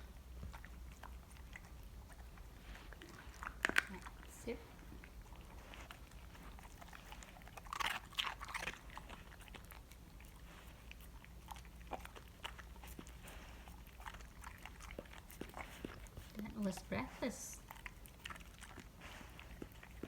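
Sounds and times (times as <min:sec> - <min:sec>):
dog chewing and crunching bones: 0:00.0 - 0:20.0.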